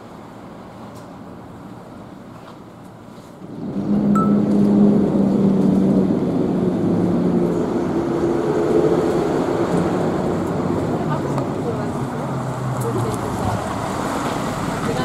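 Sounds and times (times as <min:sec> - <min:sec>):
bus engine running: 0:00.0 - 0:15.0.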